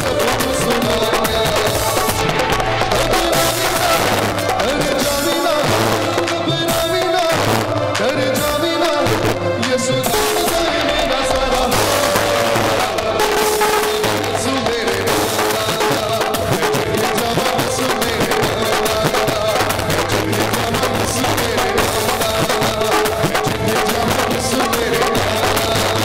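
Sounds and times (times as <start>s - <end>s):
steady drum beat: 0.0s - 26.0s.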